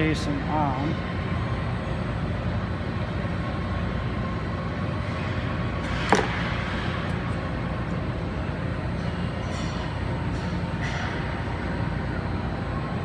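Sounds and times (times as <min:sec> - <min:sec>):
shop background hum: 0:00.0 - 0:13.0.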